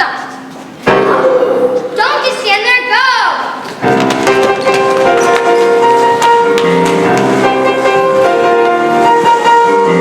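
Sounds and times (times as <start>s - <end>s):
instrumental piano music: 0.7s - 2.5s, 3.5s - 10.0s.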